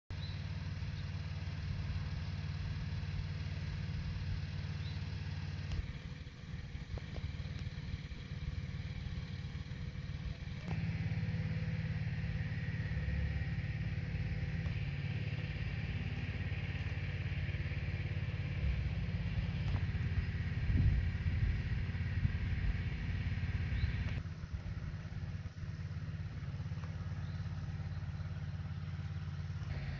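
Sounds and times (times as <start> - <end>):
engine idling: 0.1 - 29.9.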